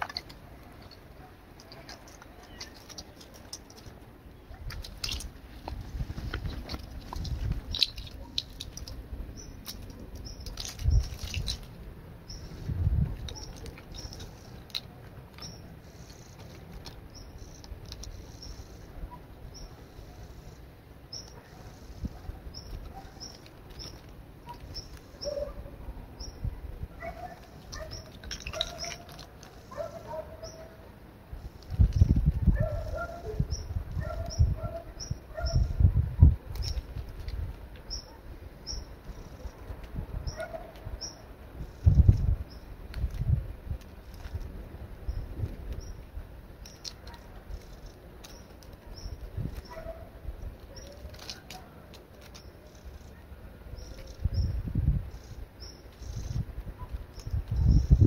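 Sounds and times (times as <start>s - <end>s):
rustling: 0.0s - 25.6s, 27.0s - 34.4s, 36.5s - 54.3s
small birds chirping: 0.0s - 58.0s.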